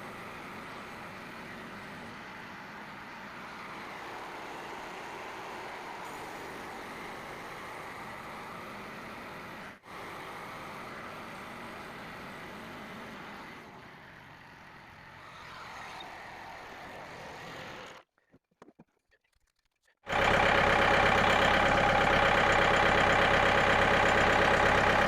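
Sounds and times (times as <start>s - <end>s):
bandsaw sawmill running: 0.0s - 15.4s, 20.1s - 25.0s.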